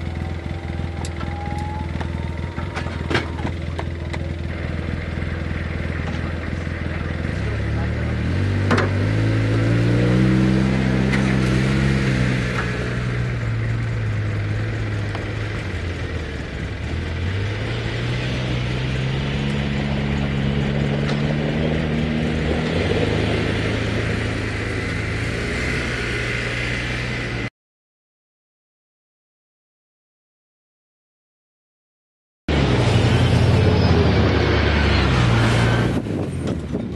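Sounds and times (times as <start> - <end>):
vehicle engines revving: 0.0 - 27.5, 32.5 - 36.9.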